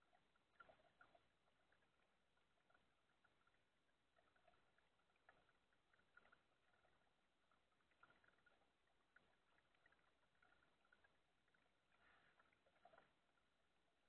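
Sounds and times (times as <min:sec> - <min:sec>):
paddle splashes and water drips: 0:00.0 - 0:14.0.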